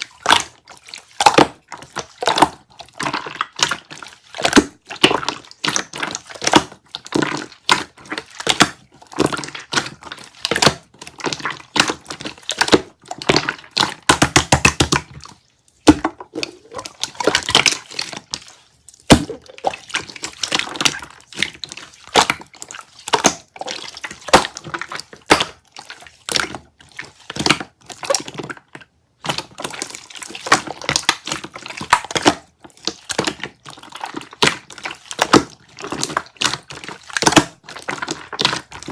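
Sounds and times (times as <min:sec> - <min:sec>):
slime squeezed with wet pops: 0:00.0 - 0:38.9.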